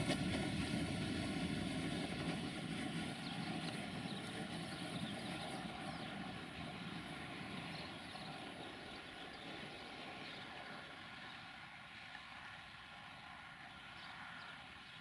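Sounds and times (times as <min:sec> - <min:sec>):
rail vehicle running on track: 0:00.0 - 0:15.0.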